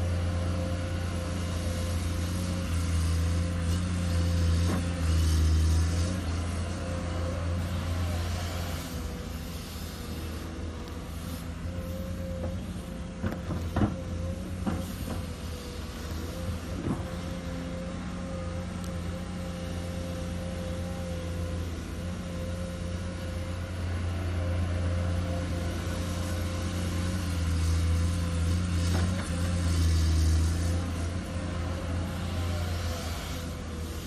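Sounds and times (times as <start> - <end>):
excavator bucket digging sand: 0.0 - 21.9, 22.9 - 34.0
excavator diesel engine under load: 0.0 - 34.0.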